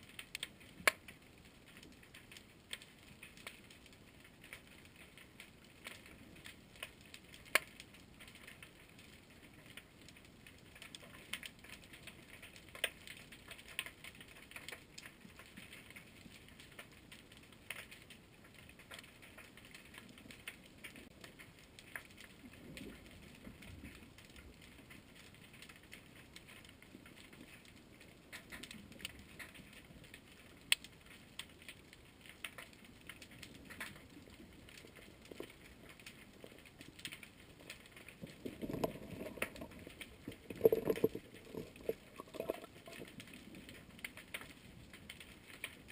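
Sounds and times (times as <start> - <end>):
underwater crackling clicks: 0.0 - 45.9.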